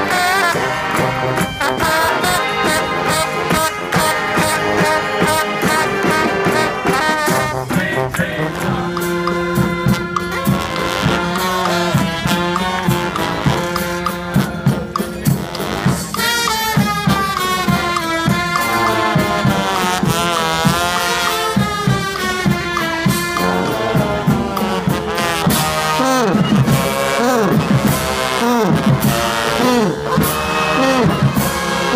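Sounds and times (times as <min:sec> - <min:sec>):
brass band playing: 0:00.0 - 0:31.9
drum beat: 0:00.0 - 0:31.9
sliding wavering horn notes: 0:00.0 - 0:31.9.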